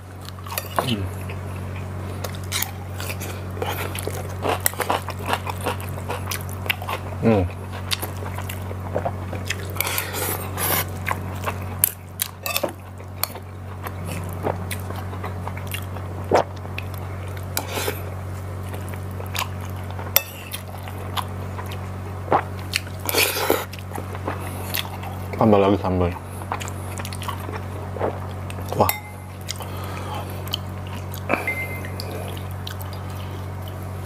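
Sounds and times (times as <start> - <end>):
man chewing food: 0.0 - 25.4, 26.1 - 34.0
low hum: 0.0 - 34.0.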